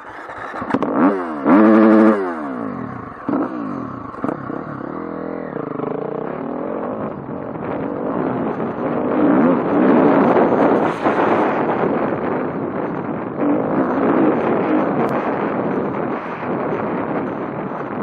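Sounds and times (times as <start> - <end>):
dirt bike engine revving: 0.0 - 17.1.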